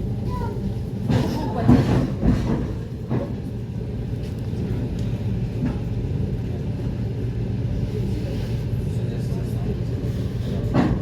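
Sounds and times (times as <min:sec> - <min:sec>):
train interior rumble: 0:00.0 - 0:11.0.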